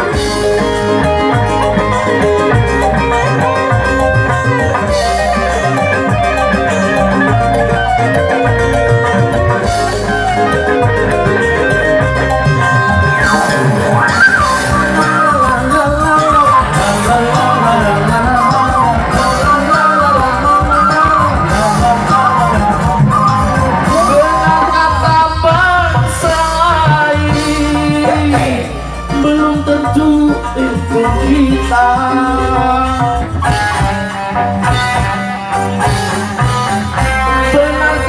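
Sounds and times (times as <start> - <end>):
electric guitar solo: 0.0 - 38.0
live band music: 0.0 - 38.0.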